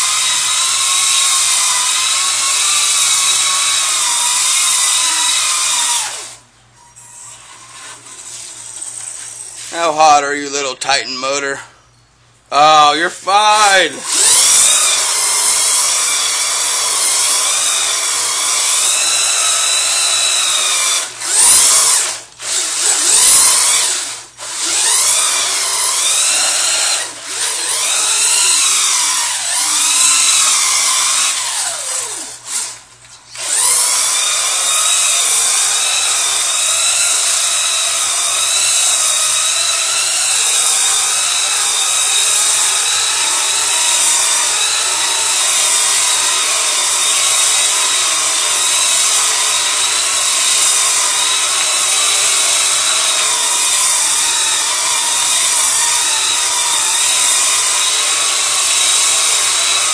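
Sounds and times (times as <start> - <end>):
electric motor whining: 0.0 - 6.4, 13.5 - 59.9.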